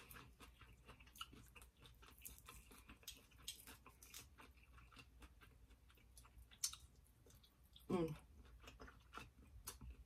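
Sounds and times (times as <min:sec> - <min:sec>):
person chewing with mouth clicks: 0:00.0 - 0:10.0.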